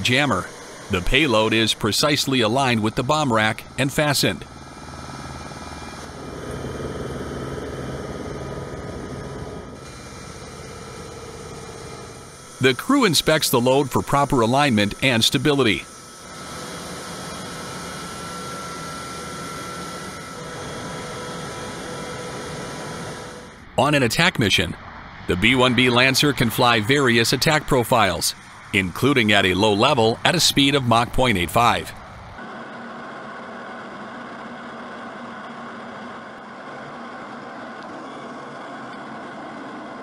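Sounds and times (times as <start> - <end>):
machinery drone and hiss: 0.0 - 34.9
thin high whine: 0.0 - 40.0.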